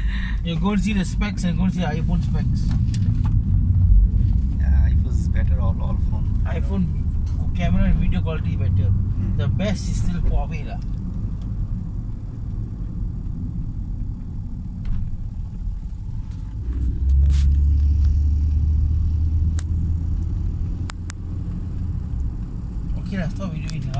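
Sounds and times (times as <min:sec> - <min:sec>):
engine and road rumble: 0:00.0 - 0:23.9.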